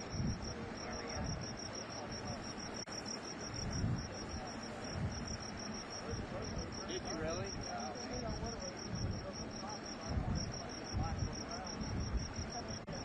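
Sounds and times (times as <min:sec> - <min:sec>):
insects chirping in fast pulse: 0:00.0 - 0:13.0.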